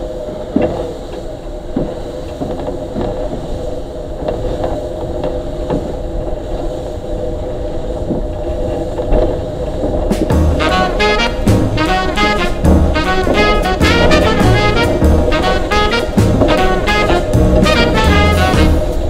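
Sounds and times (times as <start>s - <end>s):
train running hum: 0.0s - 19.0s
wheels knocking over rail joints: 0.0s - 19.0s.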